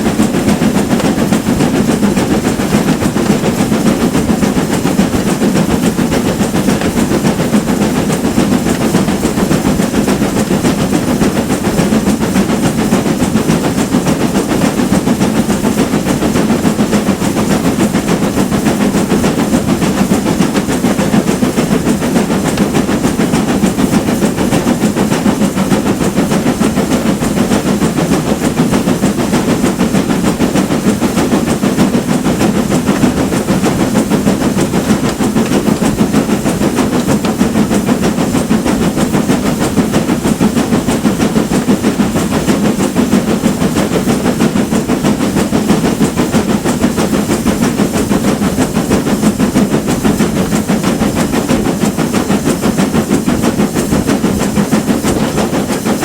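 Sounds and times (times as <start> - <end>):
steam locomotive exhaust beats: 0.0 - 56.0
train rail running noise: 0.0 - 56.0.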